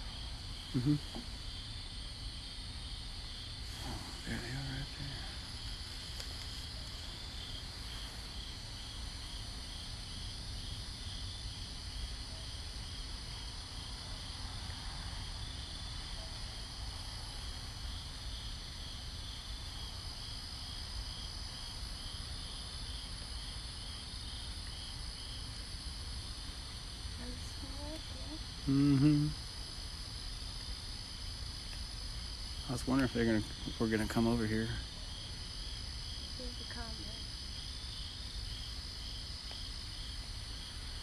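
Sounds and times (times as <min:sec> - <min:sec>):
crickets chirping: 0:00.0 - 0:41.0
high insect trill: 0:00.0 - 0:41.0.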